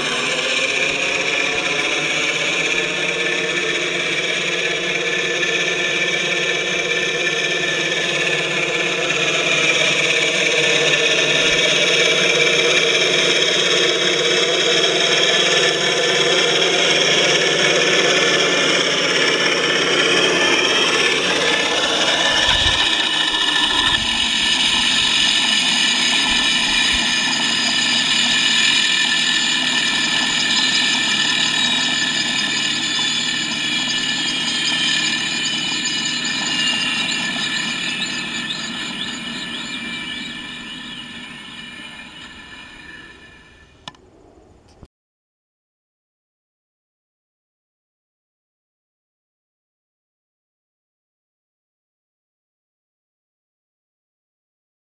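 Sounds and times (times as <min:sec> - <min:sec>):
simulated helicopter engine sound: 0:00.0 - 0:44.8
quadcopter propellers whining: 0:00.0 - 0:44.9.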